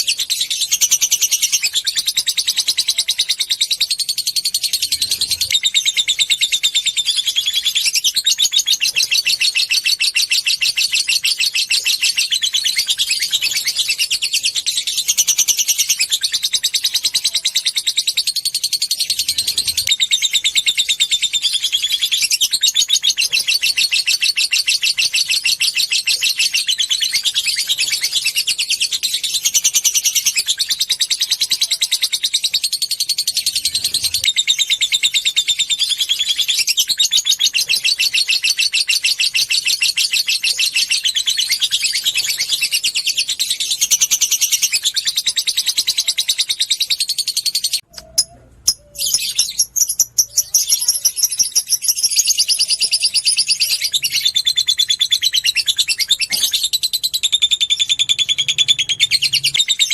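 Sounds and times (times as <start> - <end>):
lovebird chattering trill: 0.0 - 59.9.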